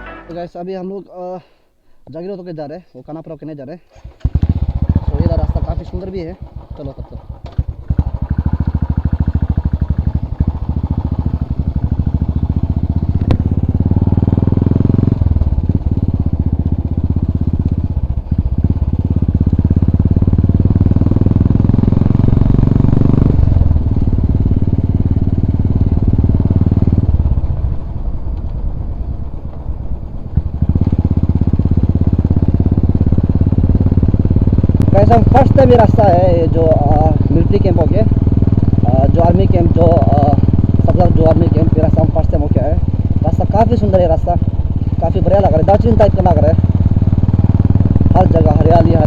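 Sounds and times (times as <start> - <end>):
motorcycle engine and exhaust: 3.9 - 49.0.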